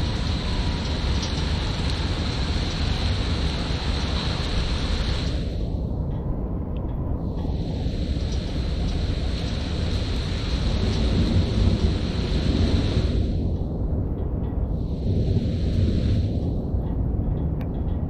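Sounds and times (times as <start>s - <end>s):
low rumble: 0.0s - 18.0s
rain: 0.0s - 18.0s
wind buffeting microphone: 0.0s - 18.0s.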